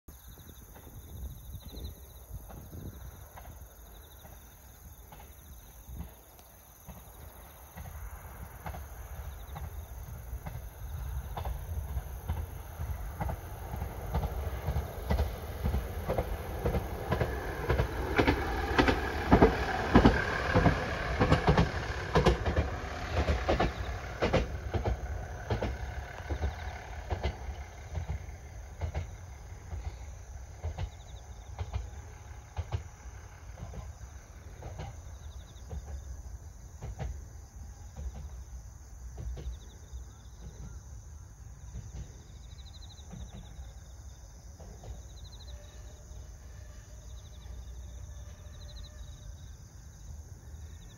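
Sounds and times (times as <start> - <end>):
train wheels clicking over rail joints: 0.1 - 45.6.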